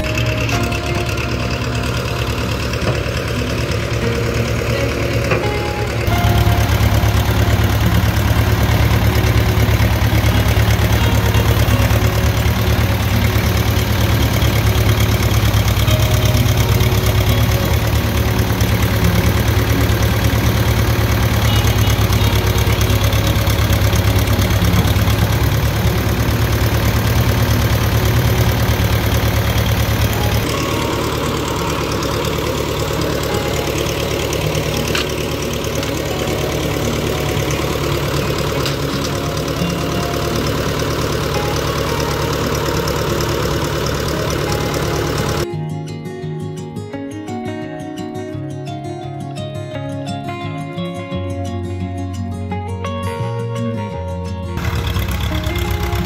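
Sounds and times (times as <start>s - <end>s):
tractor engine running: 0.0s - 45.5s, 54.6s - 56.0s.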